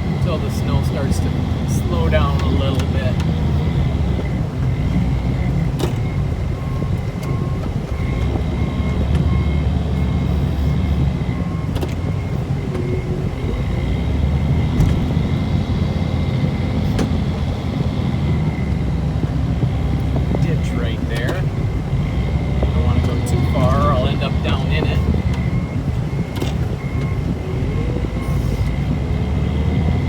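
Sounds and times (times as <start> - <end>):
engine rumbling: 0.0 - 30.0.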